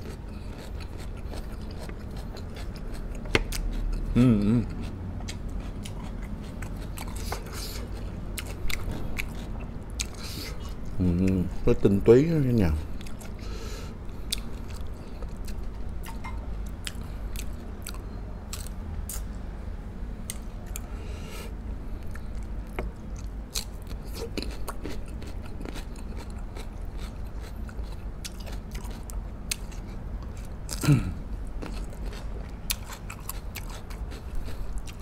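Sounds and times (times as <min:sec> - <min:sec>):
chewing and biting ribs: 0:00.0 - 0:11.8, 0:12.7 - 0:19.3, 0:21.9 - 0:35.0.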